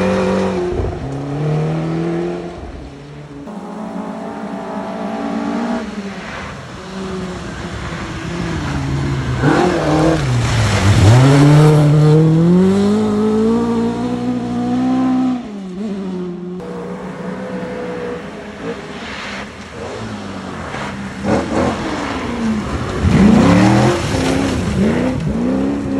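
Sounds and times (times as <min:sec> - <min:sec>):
gravel and tyre noise: 0:00.0 - 0:25.9
rally car engine accelerating: 0:00.0 - 0:25.9.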